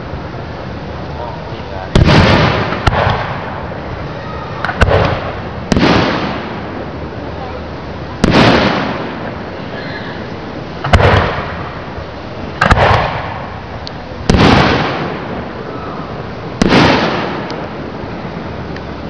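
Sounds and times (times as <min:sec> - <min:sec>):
firework shells bursting: 0:01.9 - 0:07.1, 0:08.0 - 0:18.9.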